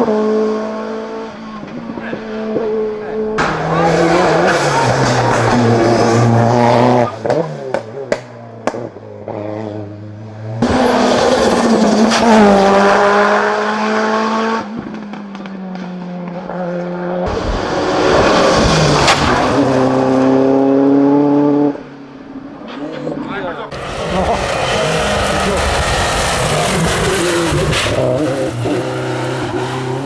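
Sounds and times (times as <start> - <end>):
racing car engines at full throttle: 0.0 - 30.0.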